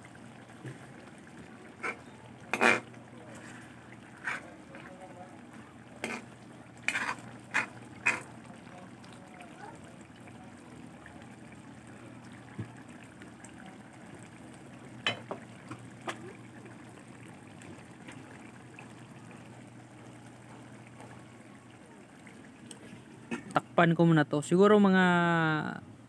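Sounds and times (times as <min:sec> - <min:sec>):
sauce bubbling in a wok: 0:00.0 - 0:23.6.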